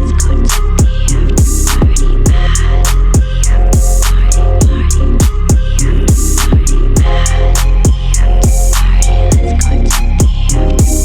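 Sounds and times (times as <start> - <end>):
crisp hi-hats: 0.0 - 11.0
electronic beat: 0.0 - 11.0
heavy bass: 0.0 - 11.0
deep kick drums: 0.8 - 2.6, 3.2 - 9.6, 10.2 - 11.0.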